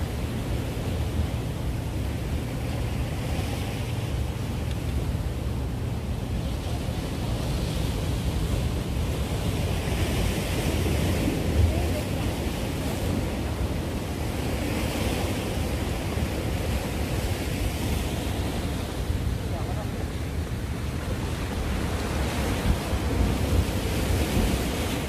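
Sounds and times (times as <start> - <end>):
surf washing against rocks: 0.0 - 25.0.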